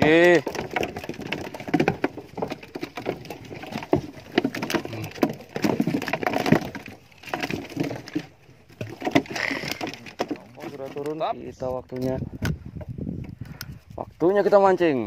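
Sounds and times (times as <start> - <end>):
plastic bucket knocking and rattling: 0.0 - 15.0.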